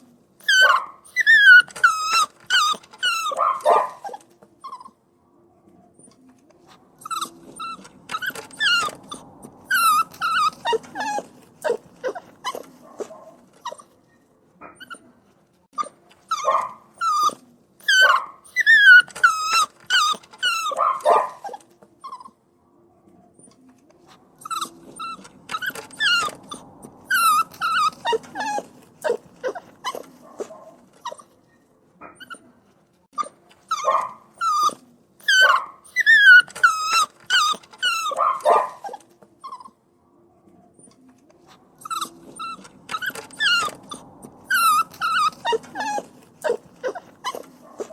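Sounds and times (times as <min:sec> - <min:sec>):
puppies whimpering and yelping: 0:00.4 - 0:05.0, 0:05.9 - 0:14.1, 0:14.7 - 0:15.2, 0:15.8 - 0:22.5, 0:23.4 - 0:31.5, 0:32.1 - 0:32.6, 0:33.2 - 0:39.8, 0:40.7 - 0:47.9.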